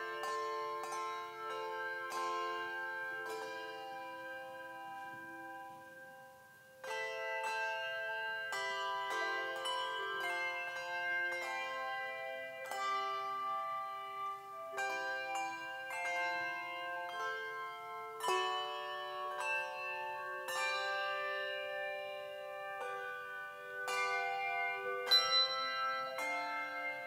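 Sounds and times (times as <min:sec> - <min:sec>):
handbell choir playing: 0:00.0 - 0:27.0.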